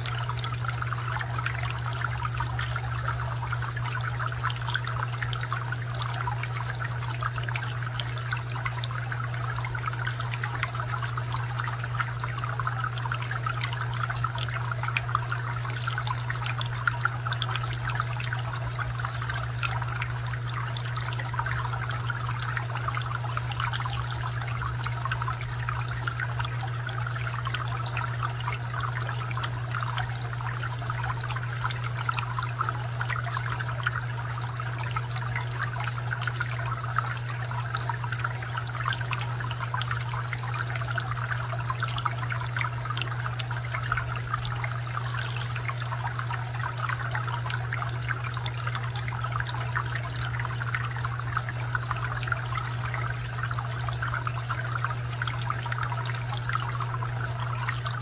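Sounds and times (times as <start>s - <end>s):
fountain water trickling and splashing: 0.0s - 58.0s
steady low hum: 0.0s - 58.0s.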